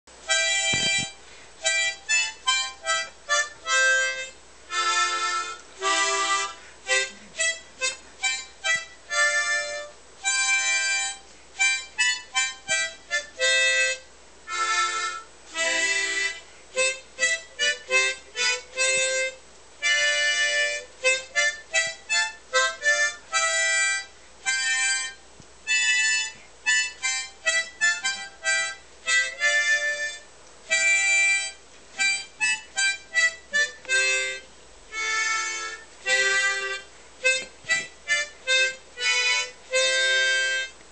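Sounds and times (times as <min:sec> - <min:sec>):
harmonica playing: 0:00.2 - 0:40.8.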